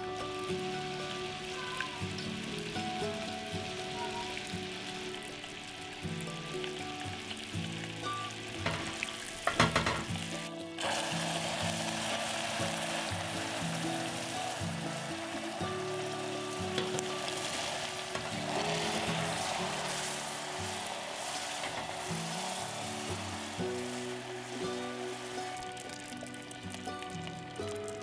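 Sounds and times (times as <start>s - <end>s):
caramel bubbling and sizzling: 0.0s - 28.0s
hot water spattering cracks: 0.0s - 28.0s.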